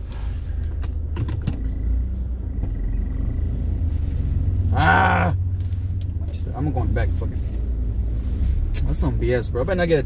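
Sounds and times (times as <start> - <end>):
car idling: 0.0 - 10.0.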